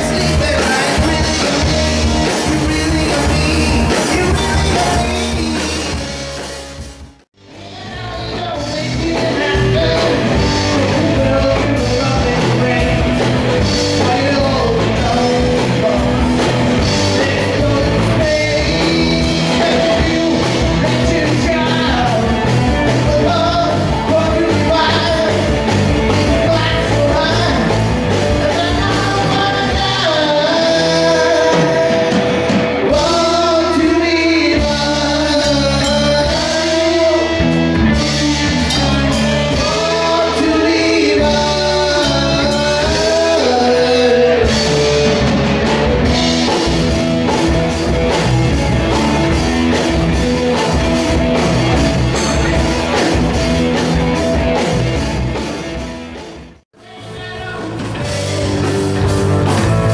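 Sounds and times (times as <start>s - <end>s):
man singing: 0.0s - 6.4s, 7.4s - 54.7s, 56.8s - 59.9s
bass guitar: 0.0s - 59.9s
drum kit: 0.0s - 59.9s
electric guitar: 0.0s - 59.9s.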